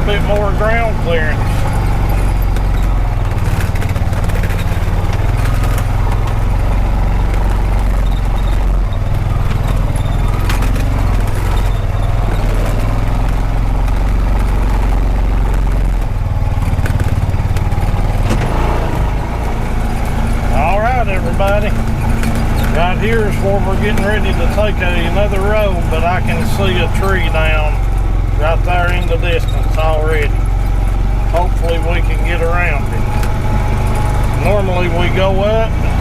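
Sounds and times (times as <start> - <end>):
vehicle engine driving: 0.0 - 36.0
vehicle rattling over bumps: 0.0 - 36.0.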